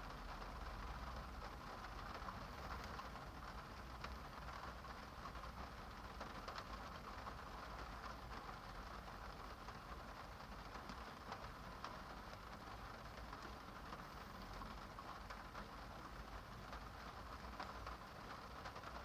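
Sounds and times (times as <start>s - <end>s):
rain falling: 0.0s - 19.0s
raindrops ticking: 0.1s - 19.0s.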